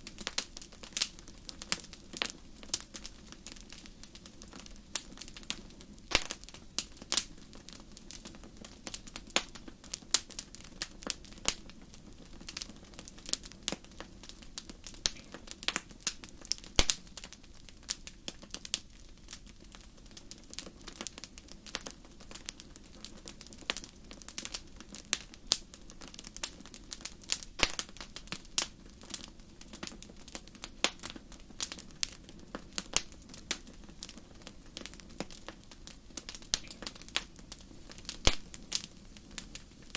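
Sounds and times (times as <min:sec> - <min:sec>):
campfire crackling: 0:00.0 - 0:39.9
low rush of flames: 0:00.0 - 0:39.9
sharp pops of burning wood: 0:00.0 - 0:39.9.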